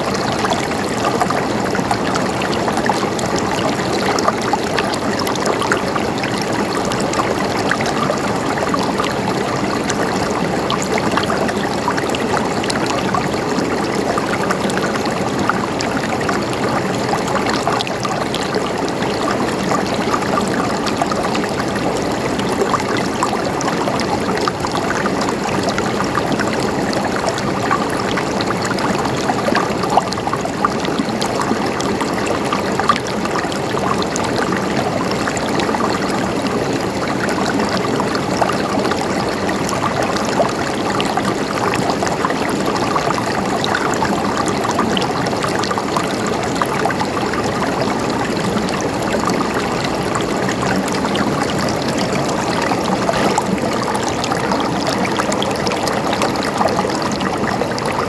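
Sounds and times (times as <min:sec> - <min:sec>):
flowing water gurgling: 0:00.0 - 0:58.0.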